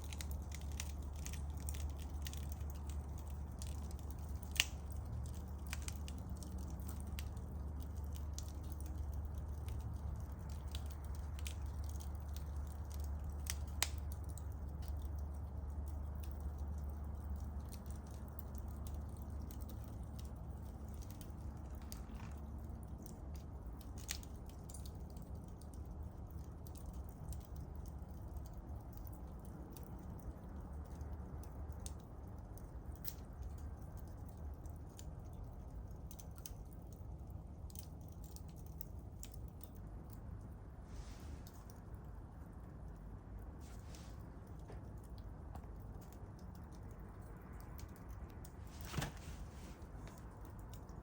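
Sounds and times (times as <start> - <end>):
campfire crackling and popping: 0.0 - 40.8, 41.4 - 51.0
low steady rumble: 0.0 - 51.0.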